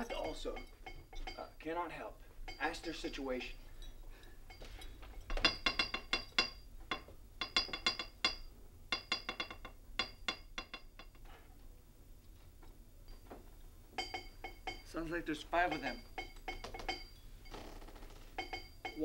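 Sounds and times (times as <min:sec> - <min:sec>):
wrench tapping on metal pipe: 0:00.0 - 0:01.6, 0:02.5 - 0:11.3, 0:13.9 - 0:19.0.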